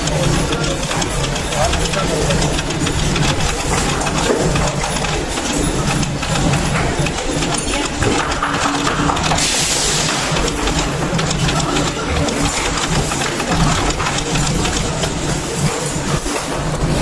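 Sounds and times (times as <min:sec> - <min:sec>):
workshop machinery humming: 0:00.0 - 0:17.0.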